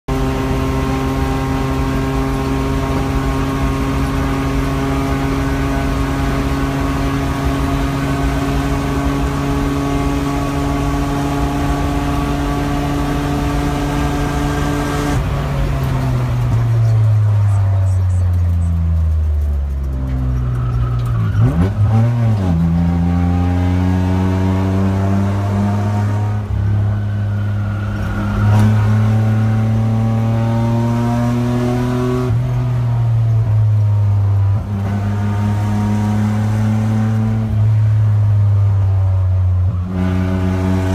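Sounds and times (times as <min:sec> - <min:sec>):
car engine at high revs: 0:00.1 - 0:40.9
wind and road noise: 0:00.1 - 0:40.9.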